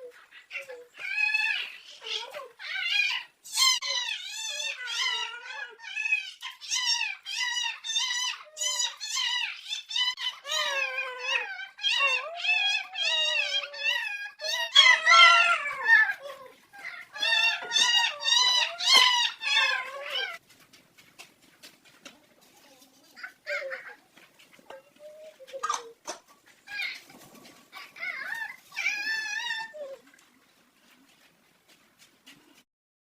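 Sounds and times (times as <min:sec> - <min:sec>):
young animal whining: 0:00.0 - 0:20.5, 0:21.8 - 0:31.3.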